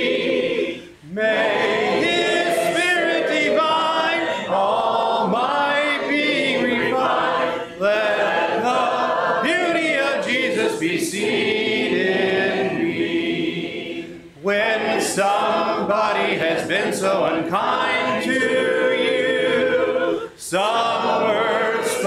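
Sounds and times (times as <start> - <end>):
congregation singing a hymn: 0.0 - 22.0.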